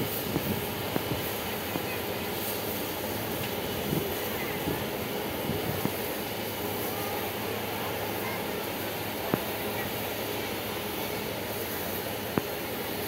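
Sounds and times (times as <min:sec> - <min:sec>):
murmur of voices: 0:01.2 - 0:13.0.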